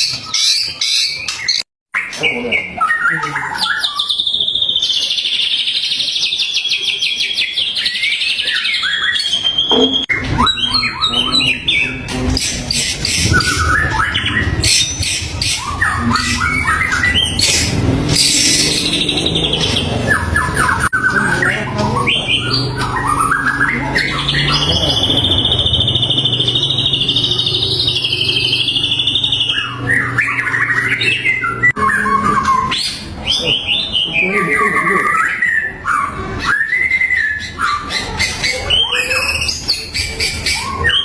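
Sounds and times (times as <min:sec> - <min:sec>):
bird singing whistled phrases: 0:00.0 - 0:41.0
long wavering bird trill: 0:00.0 - 0:41.0.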